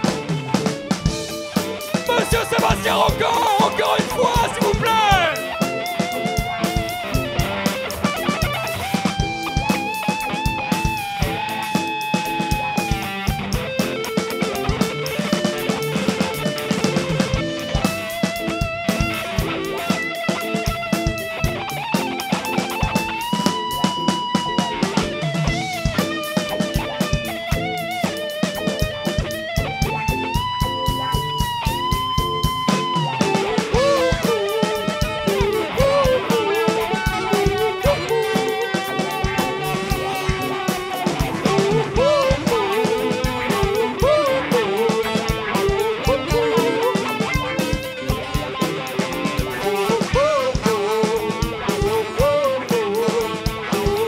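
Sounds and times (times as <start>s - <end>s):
bass guitar: 0.0s - 54.0s
drums steady beat: 0.0s - 54.0s
electric guitar solo: 0.0s - 54.0s.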